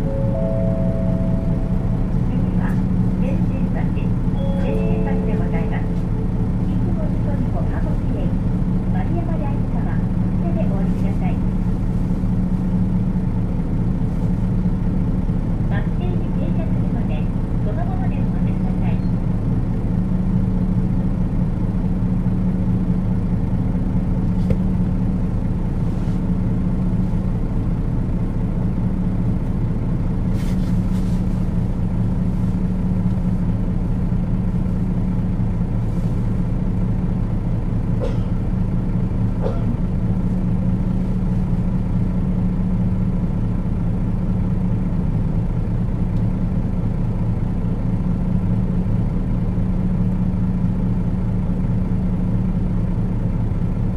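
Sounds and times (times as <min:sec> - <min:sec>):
diesel bus engine running: 0:00.0 - 0:53.9.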